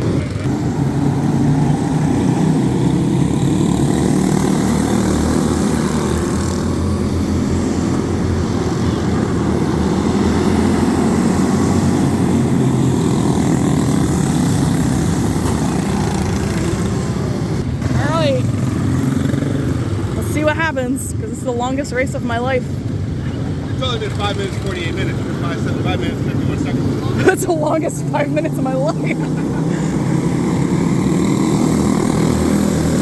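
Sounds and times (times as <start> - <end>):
go-kart engines droning: 0.0 - 33.0.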